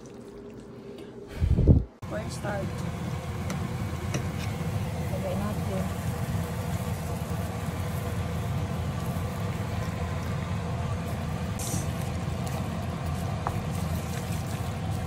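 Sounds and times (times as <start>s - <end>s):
steady low hum: 0.0s - 15.0s
vegetables simmering in a pan: 2.1s - 15.0s.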